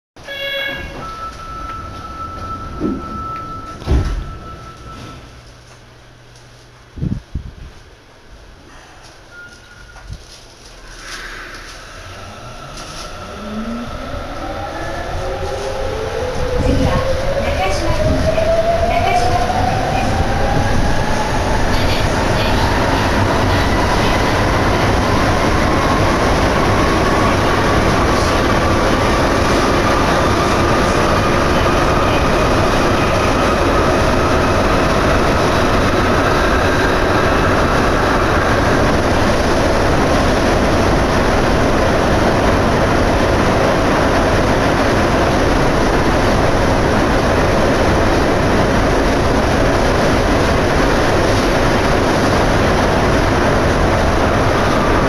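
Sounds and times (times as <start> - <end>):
subway train running noise: 0.2 - 55.0.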